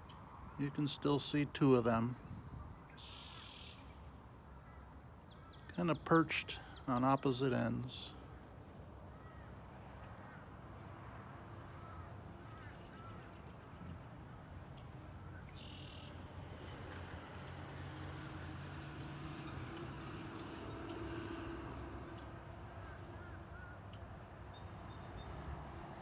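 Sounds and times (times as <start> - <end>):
distant bird calls: 0.0 - 26.0.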